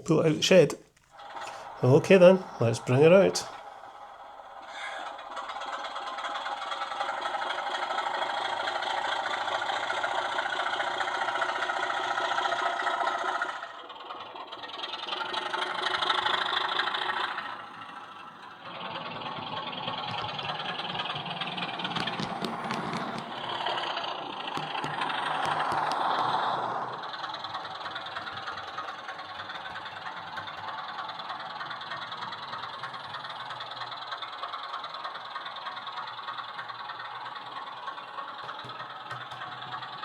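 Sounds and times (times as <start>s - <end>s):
model train diesel engine sound: 0.0s - 40.0s
small clicks and rattles: 0.7s - 40.0s.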